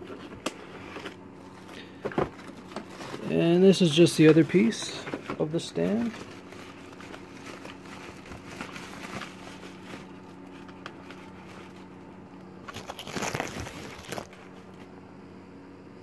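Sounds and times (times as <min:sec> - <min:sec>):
packaging rustles scrapes and knocks: 0:00.0 - 0:14.9
faint steady hum: 0:00.0 - 0:16.0.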